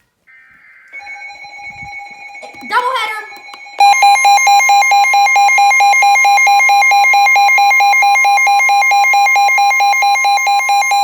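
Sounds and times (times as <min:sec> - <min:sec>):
steady alert tone: 0:01.0 - 0:11.0.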